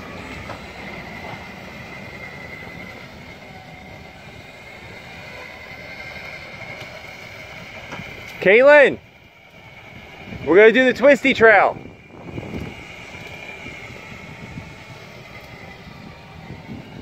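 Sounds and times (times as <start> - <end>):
tyres and wind rumble: 0.0 - 17.0.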